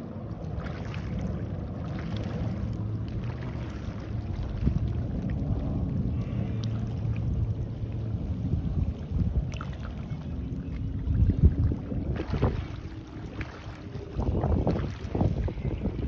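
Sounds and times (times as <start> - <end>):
motorboat engine droning: 0.0 - 16.0
sea waves washing: 0.0 - 16.0
wind buffeting microphone: 0.0 - 16.0.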